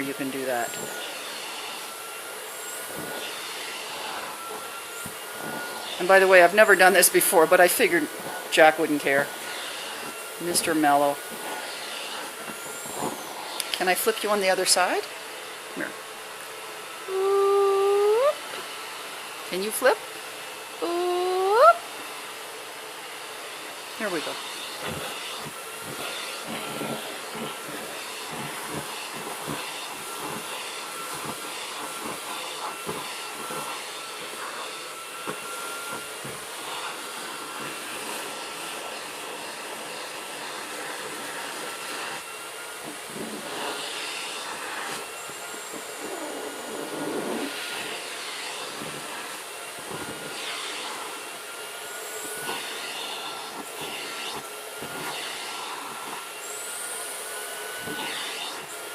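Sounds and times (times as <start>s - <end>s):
vacuum cleaner whining: 0.0s - 58.9s.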